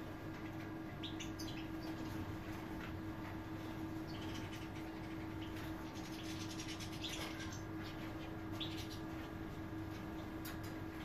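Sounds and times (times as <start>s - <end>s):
birds twittering: 0.0s - 11.0s
steady low hum: 0.0s - 11.0s.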